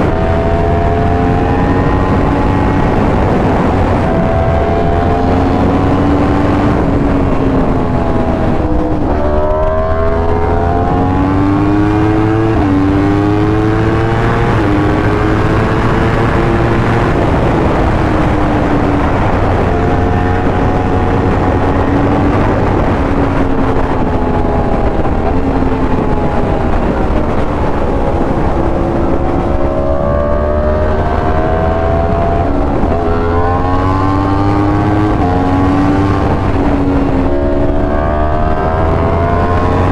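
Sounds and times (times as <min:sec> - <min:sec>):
motorcycle engine revving with upshifts: 0:00.0 - 0:39.9.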